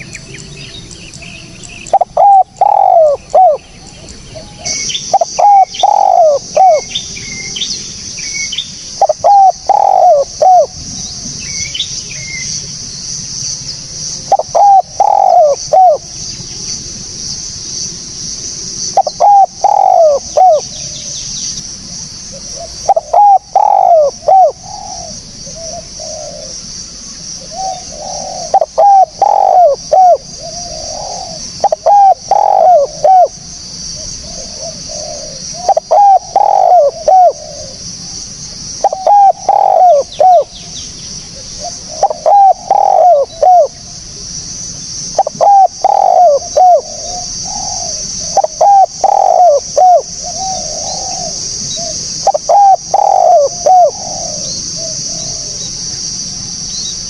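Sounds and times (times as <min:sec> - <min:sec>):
steady high hiss: 0:00.0 - 0:57.0
dove cooing: 0:01.2 - 0:07.6, 0:08.4 - 0:11.3, 0:14.2 - 0:16.1, 0:18.9 - 0:21.2, 0:21.8 - 0:40.6, 0:41.3 - 0:44.2, 0:45.1 - 0:55.8.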